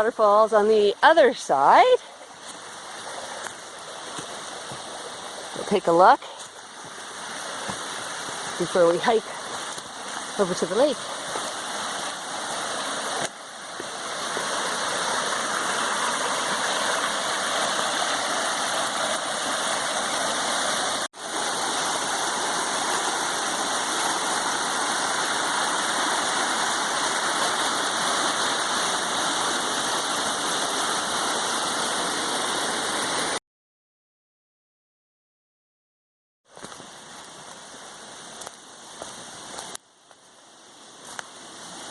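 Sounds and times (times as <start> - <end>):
waterfall rushing over rocks: 0.0 - 33.4, 36.5 - 41.9.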